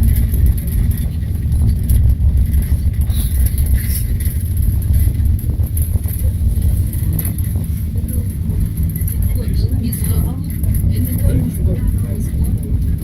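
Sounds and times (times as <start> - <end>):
cable car cabin rumble: 0.0 - 13.0.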